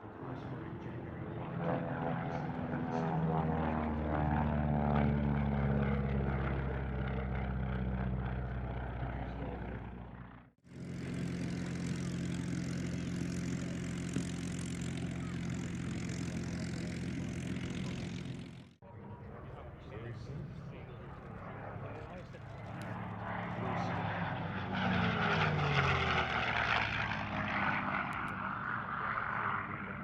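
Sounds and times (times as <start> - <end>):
propeller aircraft engine drone: 0.0 - 30.0
propeller aircraft flying past: 0.0 - 30.0.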